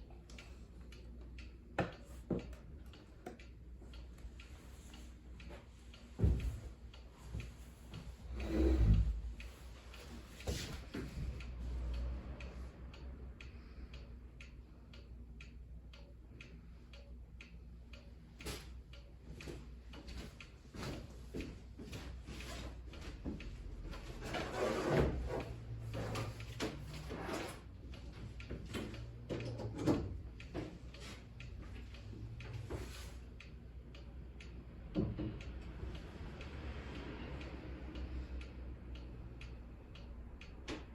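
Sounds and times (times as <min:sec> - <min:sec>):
clock ticking: 0:00.0 - 0:24.5, 0:25.1 - 0:40.9.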